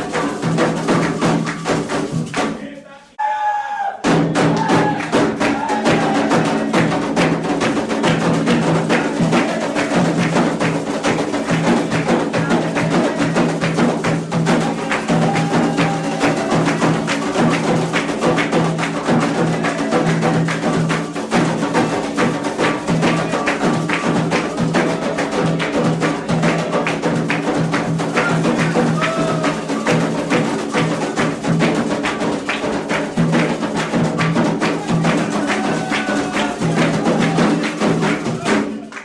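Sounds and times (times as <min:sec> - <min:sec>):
hand drums fast rhythm: 0:00.0 - 0:02.6, 0:04.0 - 0:39.0.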